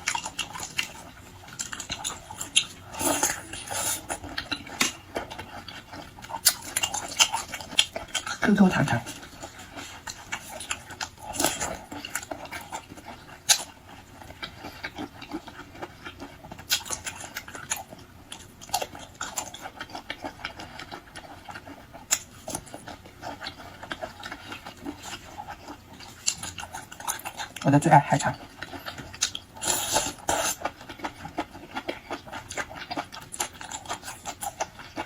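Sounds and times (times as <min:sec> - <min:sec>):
person chewing and lip-smacking: 0:00.0 - 0:35.0.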